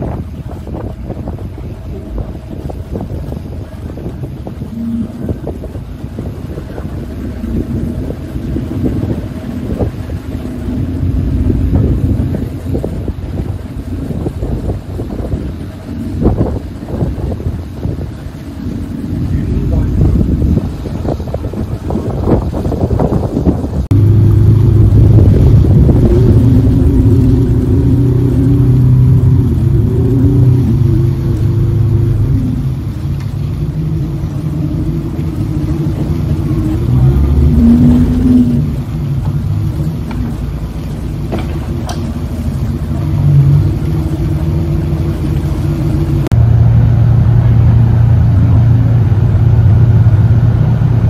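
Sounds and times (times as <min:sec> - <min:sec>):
ferry engine droning: 0:00.0 - 0:51.0.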